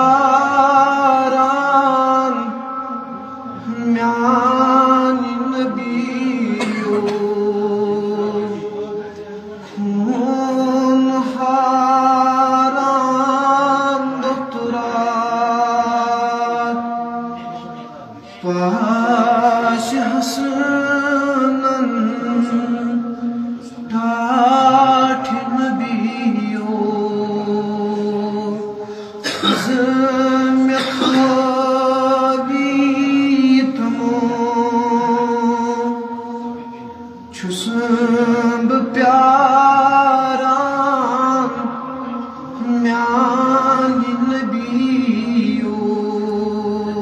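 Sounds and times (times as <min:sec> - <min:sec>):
man chanting unaccompanied: 0:00.0 - 0:47.0.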